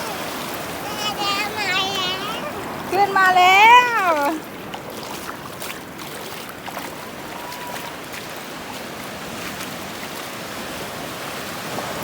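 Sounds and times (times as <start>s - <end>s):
sea waves washing on beach: 0.0s - 12.0s.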